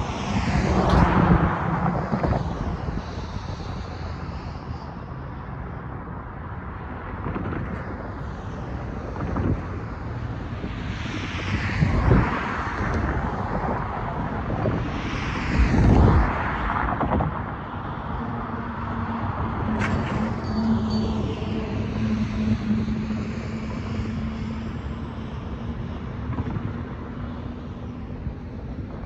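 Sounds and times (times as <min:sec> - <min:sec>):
cars passing: 0:00.0 - 0:29.0
low traffic rumble: 0:00.0 - 0:29.0.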